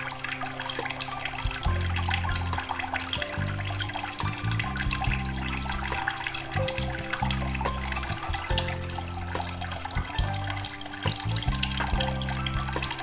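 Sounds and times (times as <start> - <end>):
background music with low notes: 0.0 - 13.0
water trickling into aquarium: 0.0 - 13.0.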